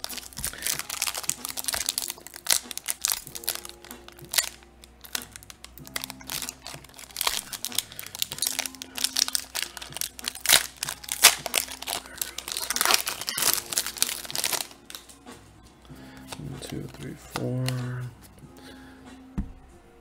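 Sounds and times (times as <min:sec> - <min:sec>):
foil wrapper crinkling: 0:00.0 - 0:15.2, 0:16.2 - 0:17.8
soft background music: 0:00.0 - 0:20.0.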